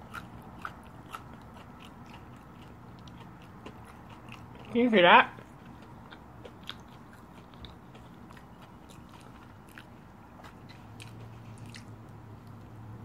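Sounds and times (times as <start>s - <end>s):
biting into a burger: 0.0s - 12.6s
chewing food: 0.0s - 12.8s.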